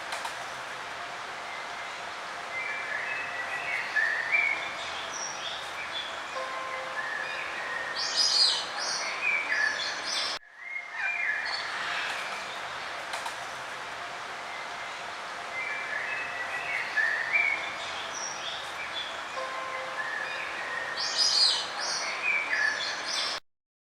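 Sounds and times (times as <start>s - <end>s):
steady background hiss: 0.0s - 23.4s
songbirds chirping and singing: 1.4s - 13.0s, 14.3s - 23.4s.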